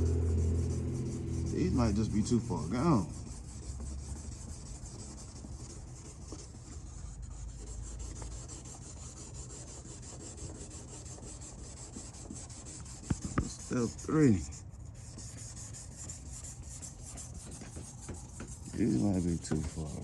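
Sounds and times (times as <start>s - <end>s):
sanding pad rubbing plastic: 0.0s - 20.0s.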